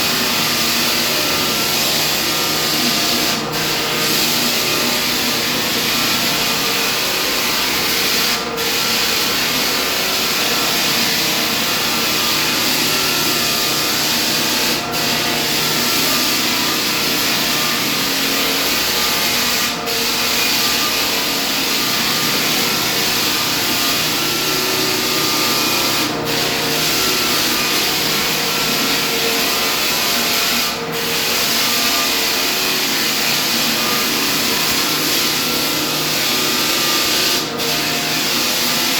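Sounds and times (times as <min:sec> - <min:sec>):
floor sanding machine grinding: 0:00.0 - 0:38.9.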